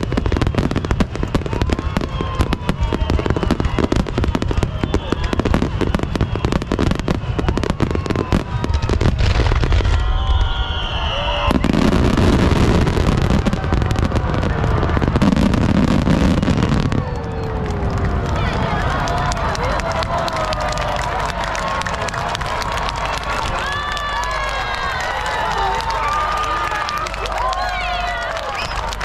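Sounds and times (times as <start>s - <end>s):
fireworks booming and cracking: 0.0s - 26.8s
spectators' voices: 0.0s - 29.0s.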